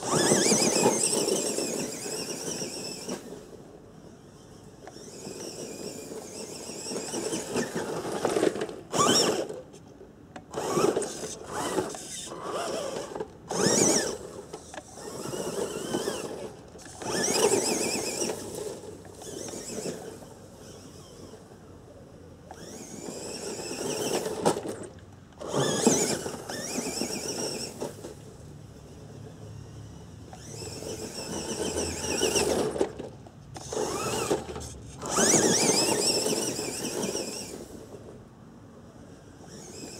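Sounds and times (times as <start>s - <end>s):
toy truck electric motor whining: 0.0s - 9.8s, 10.4s - 38.2s, 39.0s - 39.9s.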